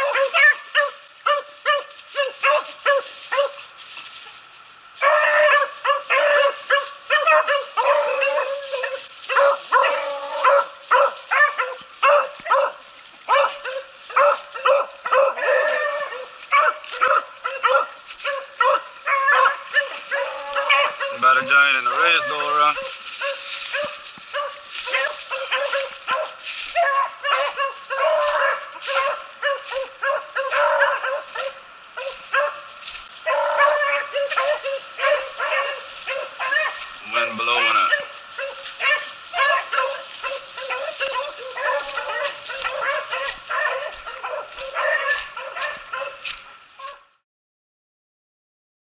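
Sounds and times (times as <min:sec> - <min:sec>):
beagles baying and yelping: 0:00.0 - 0:47.2.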